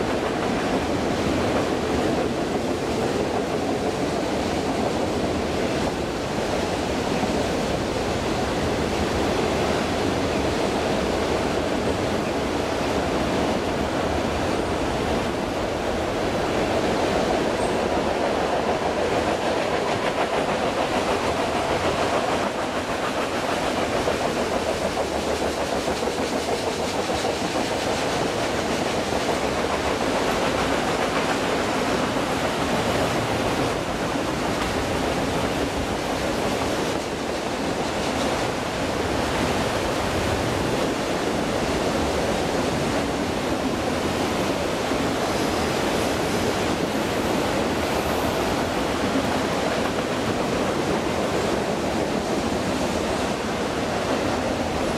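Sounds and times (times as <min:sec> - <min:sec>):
steel wheels running on rails: 0:00.0 - 0:54.9.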